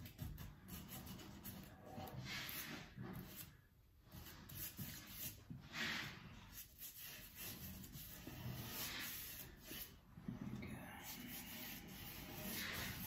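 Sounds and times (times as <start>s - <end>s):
brush rubbing scratchily: 0.0s - 13.0s.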